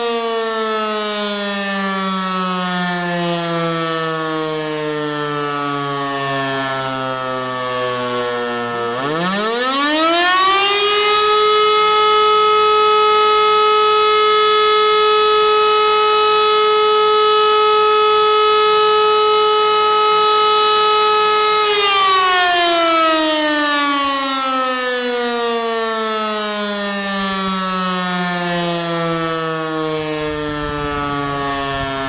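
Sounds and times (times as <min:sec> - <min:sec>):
civil defence siren howling: 0:00.0 - 0:32.0.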